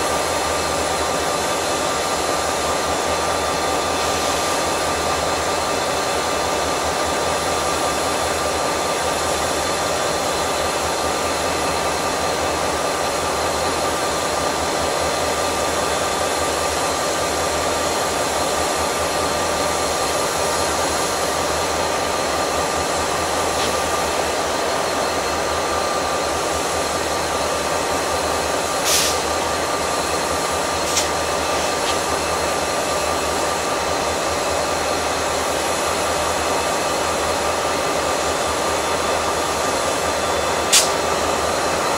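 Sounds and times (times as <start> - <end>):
locomotive engines idling: 0.0 - 41.9.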